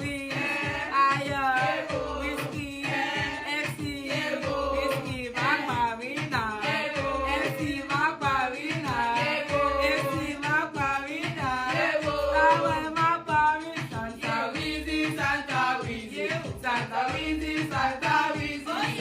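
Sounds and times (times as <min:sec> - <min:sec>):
person singing: 0:00.0 - 0:19.0.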